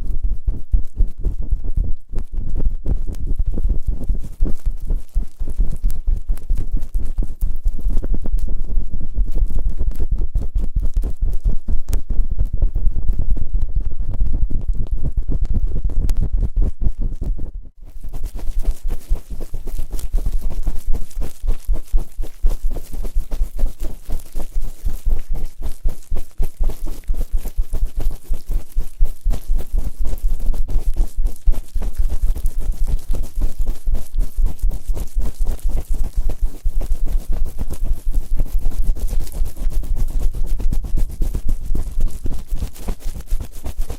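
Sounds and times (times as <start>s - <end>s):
rubbing and scraping on microphone: 0.0s - 43.9s.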